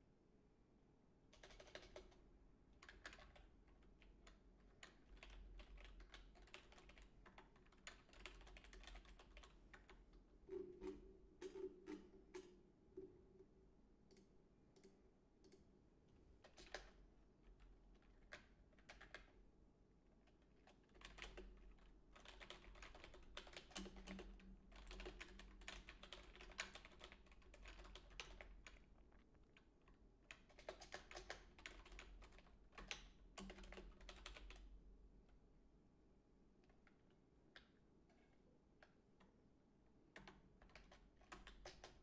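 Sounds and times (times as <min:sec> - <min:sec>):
faint typing on keyboard: 0:01.3 - 0:13.1, 0:14.0 - 0:19.4, 0:20.1 - 0:35.4, 0:36.6 - 0:39.4, 0:40.1 - 0:42.0.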